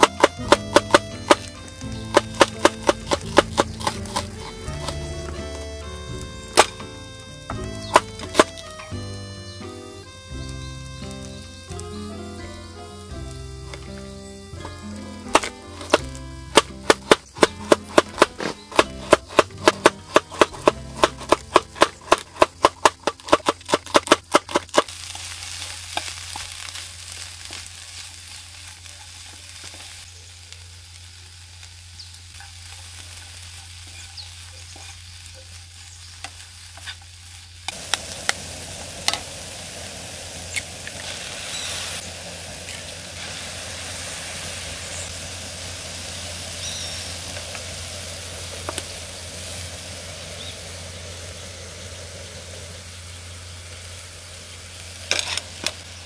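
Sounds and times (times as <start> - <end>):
vegetables sizzling in a wok: 0.0 - 56.0.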